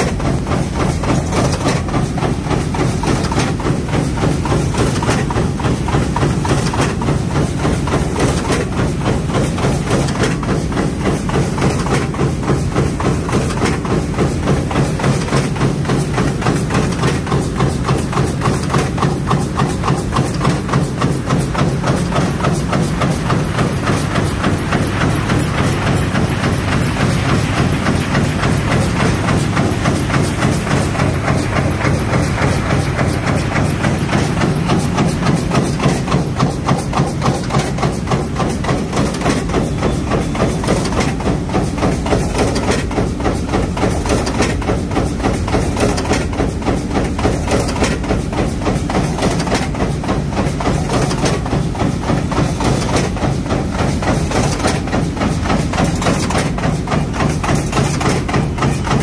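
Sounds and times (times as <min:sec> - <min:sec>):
press strokes clattering: 0:00.0 - 0:59.0.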